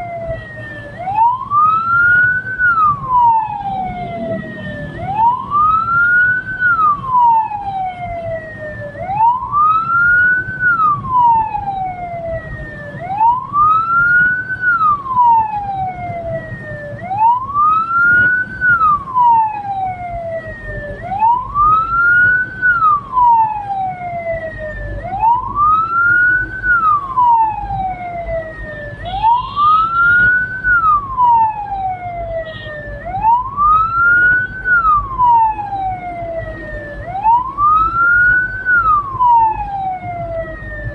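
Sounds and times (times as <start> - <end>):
low vehicle rumble: 0.0 - 40.9
siren wailing: 0.0 - 40.9.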